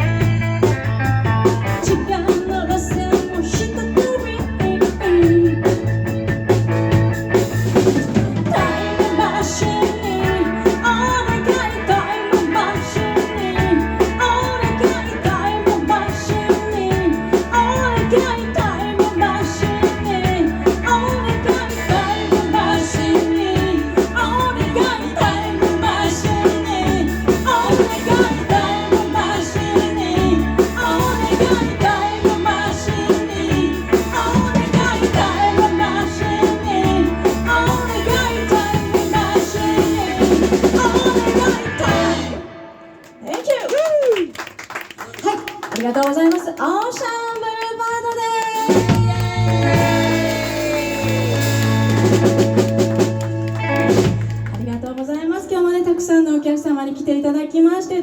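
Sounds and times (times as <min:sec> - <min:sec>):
live rock and roll band: 0:00.0 - 0:43.8, 0:48.4 - 0:54.8.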